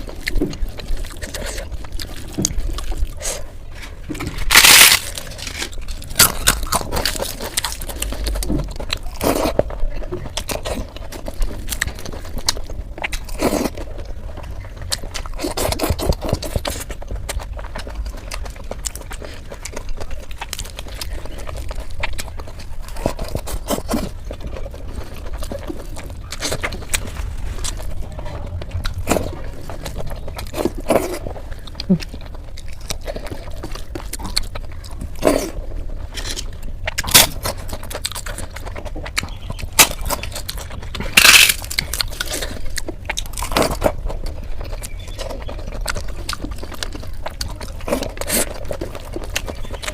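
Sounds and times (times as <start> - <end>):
fried eggplant being chewed: 0.0 - 49.9.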